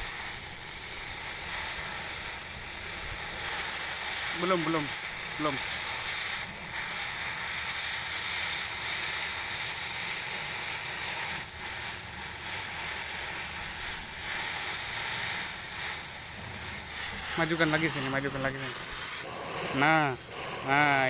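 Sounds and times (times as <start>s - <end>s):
cutting torch flame hissing: 0.0s - 21.0s.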